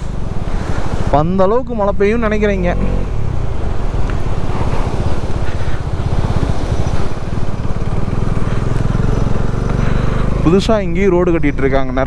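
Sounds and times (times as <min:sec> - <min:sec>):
rushing noise: 0:00.0 - 0:11.0
motorcycle engine running: 0:02.0 - 0:12.0.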